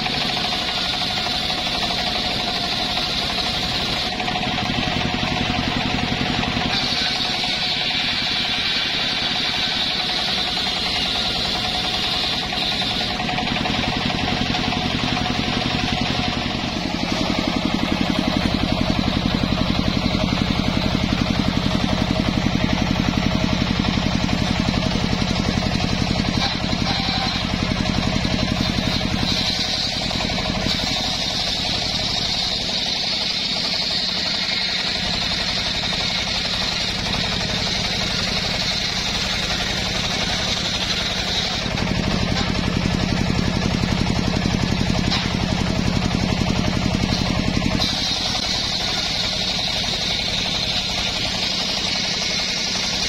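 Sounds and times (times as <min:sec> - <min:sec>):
circular saw cutting whine: 0:00.0 - 0:53.0
saw engine running: 0:00.0 - 0:53.0.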